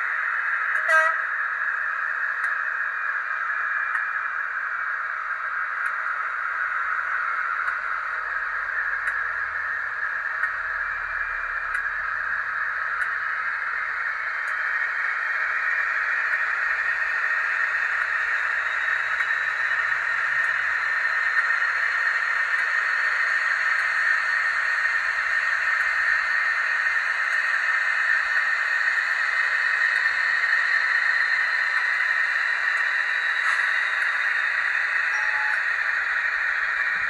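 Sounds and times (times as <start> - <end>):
faint high whine: 0.0 - 37.0
thin hissy diesel engine sound: 0.0 - 37.0.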